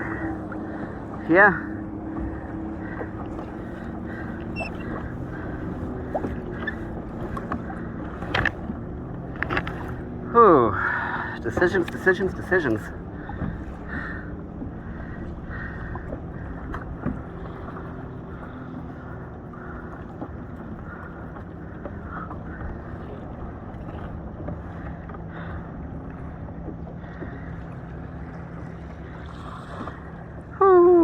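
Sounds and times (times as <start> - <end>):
water lapping against kayak hull: 0.0 - 31.0.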